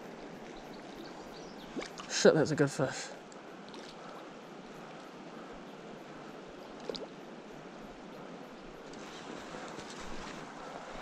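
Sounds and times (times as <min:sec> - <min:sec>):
river water over gravel: 0:00.0 - 0:05.4, 0:06.0 - 0:11.0.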